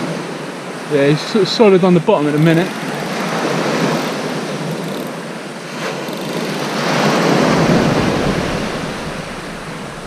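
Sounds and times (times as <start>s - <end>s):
sea surf washing on beach: 0.0s - 10.0s.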